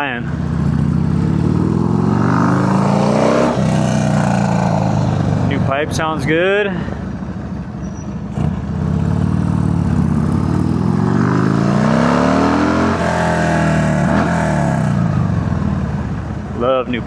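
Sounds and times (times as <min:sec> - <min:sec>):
motorcycle engine accelerating: 0:00.0 - 0:16.6.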